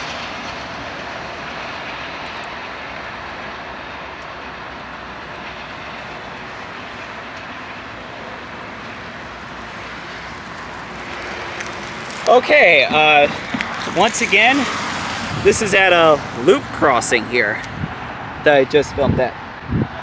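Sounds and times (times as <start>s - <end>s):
distant freight train rumble: 0.0s - 20.0s
wind buffeting microphone: 0.0s - 20.0s.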